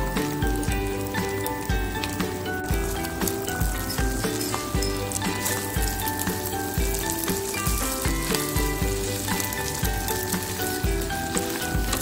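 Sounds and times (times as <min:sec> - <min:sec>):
background music: 0:00.0 - 0:12.0
rice sizzling in a pan: 0:00.0 - 0:12.0.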